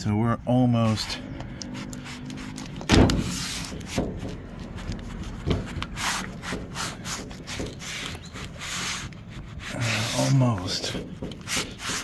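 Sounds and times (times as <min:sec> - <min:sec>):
glove rubbing on glass: 0:00.6 - 0:12.0.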